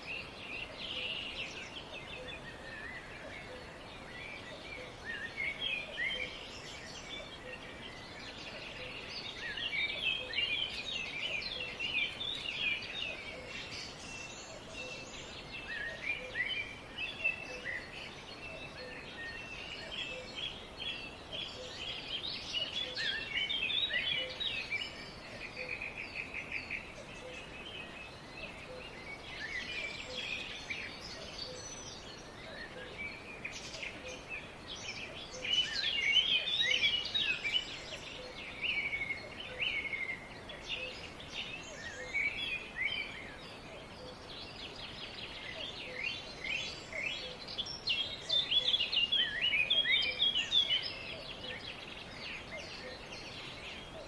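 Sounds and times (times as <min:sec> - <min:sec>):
birds chirping and singing: 0:00.0 - 0:54.0
faint background hiss: 0:00.0 - 0:54.0.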